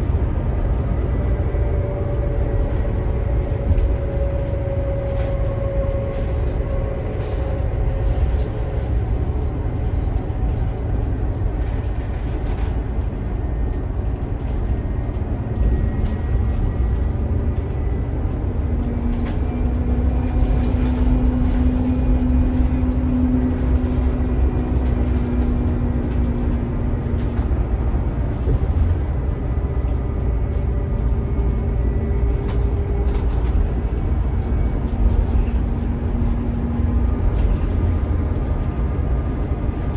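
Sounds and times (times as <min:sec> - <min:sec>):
coach engine drone: 0:00.0 - 0:39.9.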